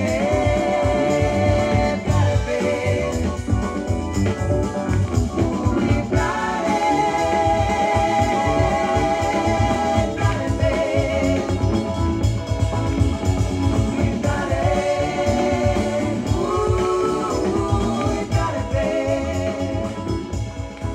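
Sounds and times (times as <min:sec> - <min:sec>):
funk song from vinyl record: 0:00.0 - 0:20.9.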